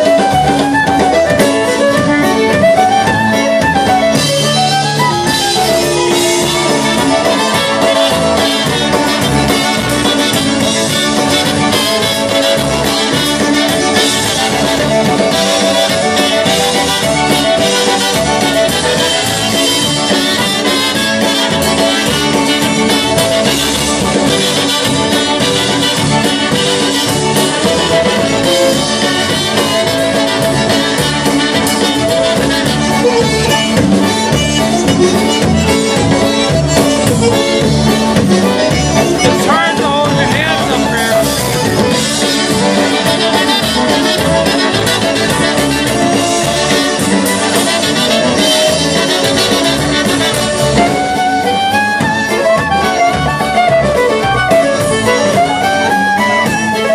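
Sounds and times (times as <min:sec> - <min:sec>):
accordion: 0:00.0 - 0:56.9
fiddle: 0:00.0 - 0:56.9
steady beat: 0:00.0 - 0:56.9
trumpets playing tune: 0:00.0 - 0:56.9.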